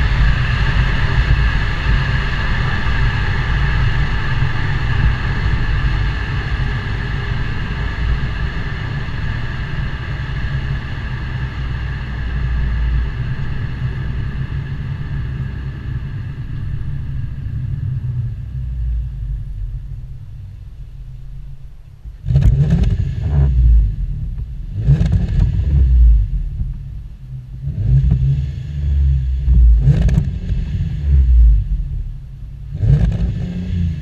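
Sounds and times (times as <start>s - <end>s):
car engine and exhaust rumbling: 0.0s - 34.0s.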